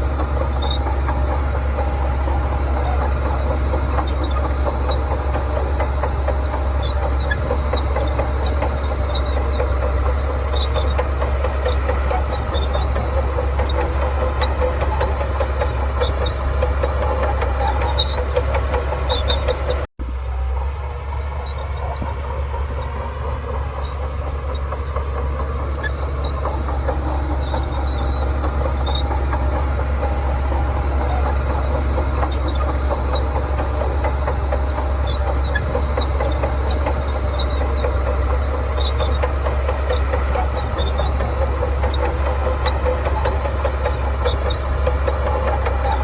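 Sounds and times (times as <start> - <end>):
bulldozer diesel engine humming: 0.0 - 46.0.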